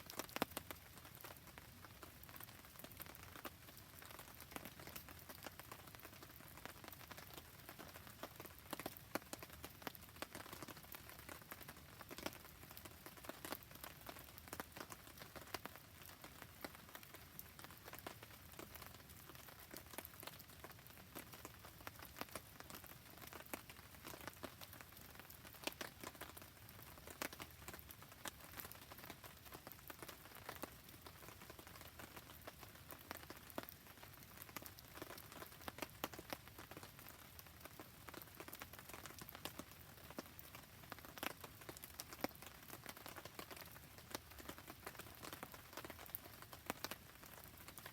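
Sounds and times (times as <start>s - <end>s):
campfire crackling and popping: 0.0s - 47.9s
faint steady rain: 0.0s - 47.9s.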